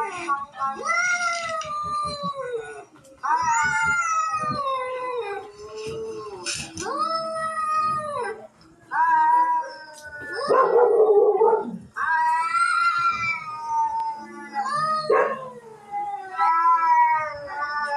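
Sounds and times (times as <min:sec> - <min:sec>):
cats yowling: 0:00.0 - 0:17.9.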